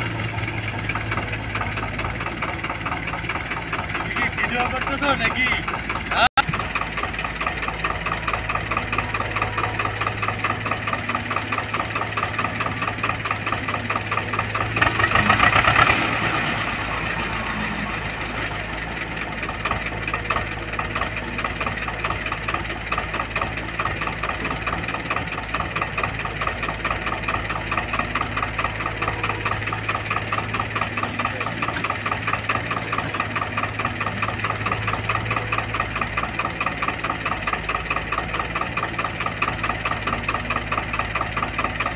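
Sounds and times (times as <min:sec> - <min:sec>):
excavator engine: 0:00.0 - 0:41.9
tractor diesel engine idling: 0:00.0 - 0:41.9.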